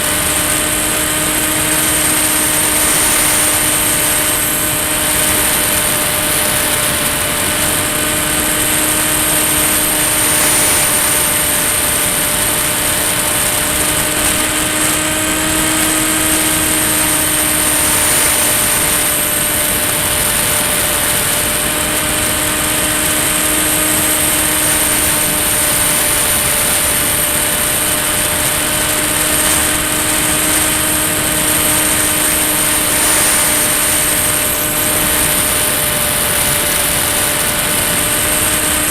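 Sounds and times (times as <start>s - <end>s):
model plane motor and propeller: 0.0s - 38.9s.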